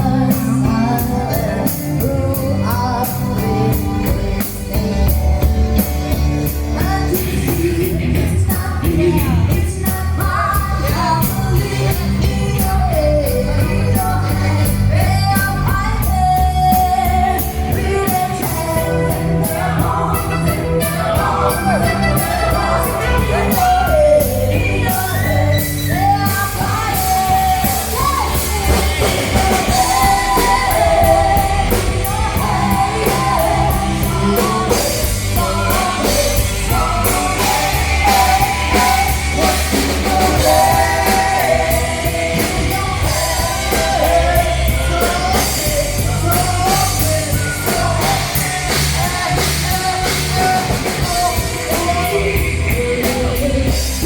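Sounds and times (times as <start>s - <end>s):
loud rock music with singer: 0.0s - 54.0s.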